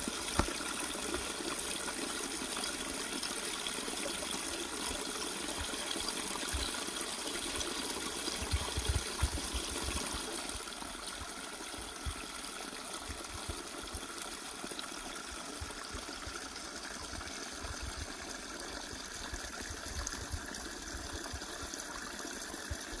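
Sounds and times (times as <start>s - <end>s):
stream trickling over rocks: 0.0s - 23.0s.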